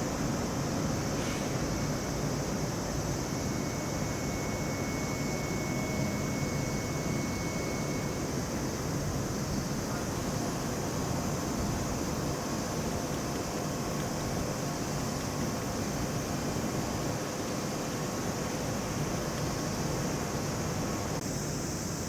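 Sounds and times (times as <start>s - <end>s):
road traffic rumble: 0.0s - 21.8s
faint high whine: 0.0s - 22.0s.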